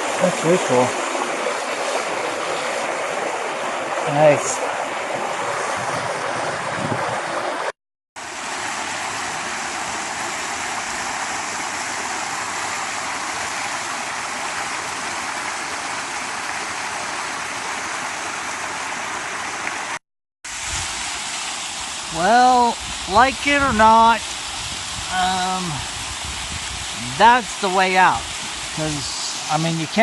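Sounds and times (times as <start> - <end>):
small waterfall splashing over rock: 0.0 - 30.0.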